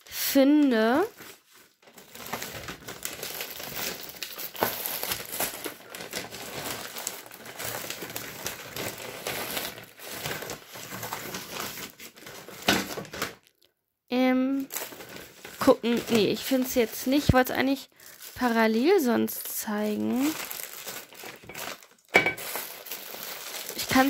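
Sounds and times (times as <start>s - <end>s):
plastic packages crinkling: 0.6s - 13.7s, 14.5s - 24.0s.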